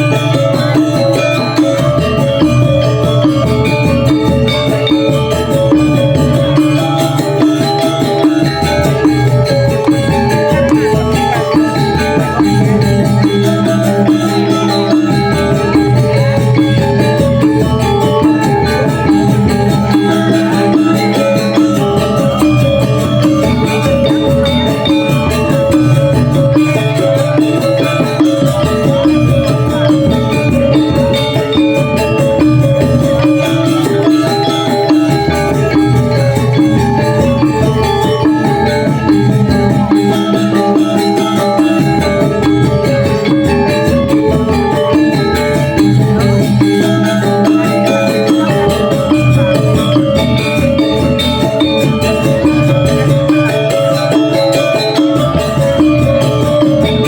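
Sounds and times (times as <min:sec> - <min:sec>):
gamelan ensemble playing: 0:00.0 - 0:57.0
struck bronze metallophones: 0:00.0 - 0:57.0.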